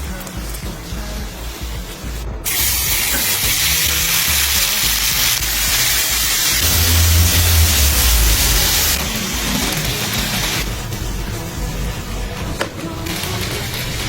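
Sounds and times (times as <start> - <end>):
background music with low beat: 0.0 - 14.0.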